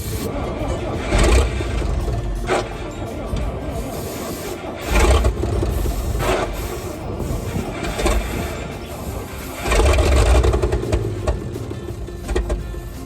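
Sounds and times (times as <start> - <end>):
truck engine running rough: 0.0 - 13.0.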